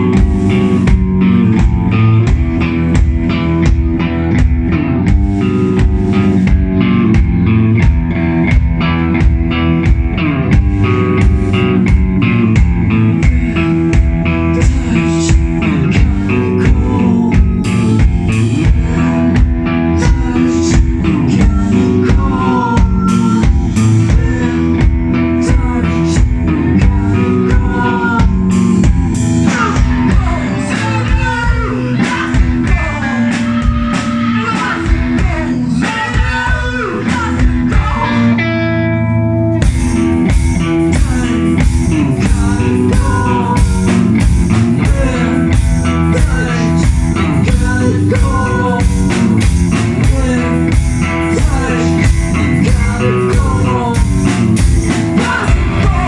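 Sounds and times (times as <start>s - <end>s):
rock band music: 0.0s - 56.0s.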